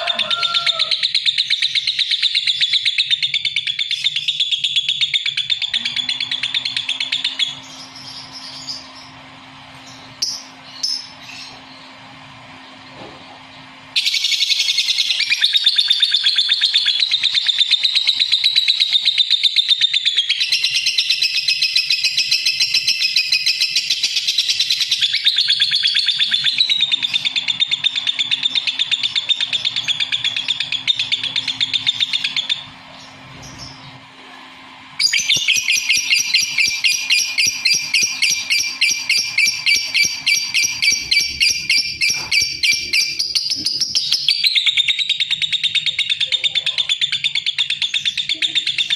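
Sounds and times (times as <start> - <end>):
bird chattering trill: 0.0 - 12.9, 13.9 - 33.9, 35.0 - 48.9.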